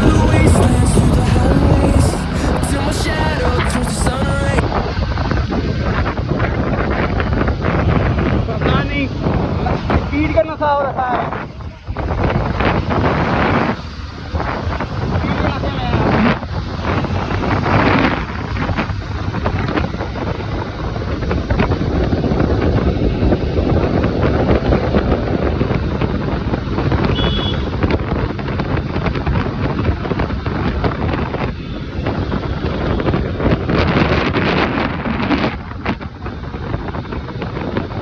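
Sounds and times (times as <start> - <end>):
road noise: 0.0 - 5.8, 7.3 - 38.0
wind buffeting microphone: 0.0 - 38.0.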